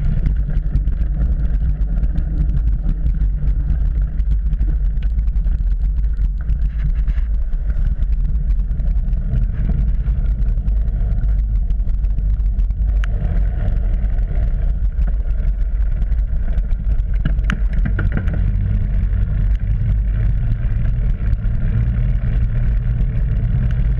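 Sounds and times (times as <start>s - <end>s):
bike clicks and rattles: 0.0s - 23.9s
tyres rumbling on dirt: 0.0s - 23.9s
wind across microphone: 0.0s - 23.9s.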